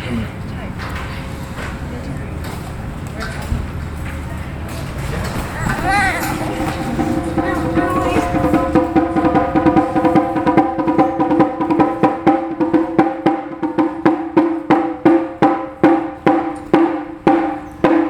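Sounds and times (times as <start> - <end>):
taiko drums rolling: 3.4 - 18.0.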